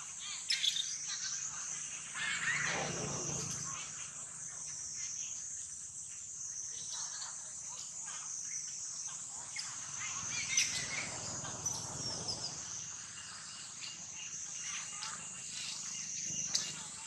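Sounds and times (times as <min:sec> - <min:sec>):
insect chorus droning: 0:00.0 - 0:17.0.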